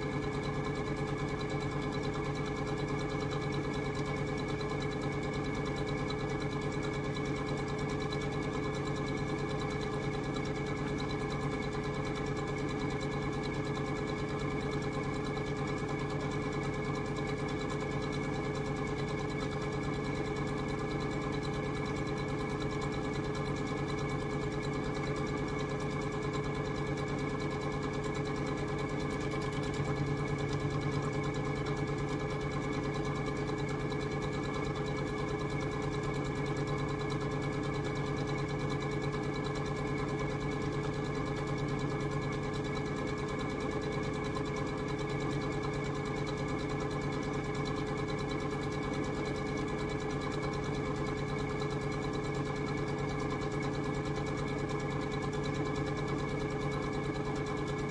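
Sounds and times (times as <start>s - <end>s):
sewing machine running: 3.6s - 57.9s.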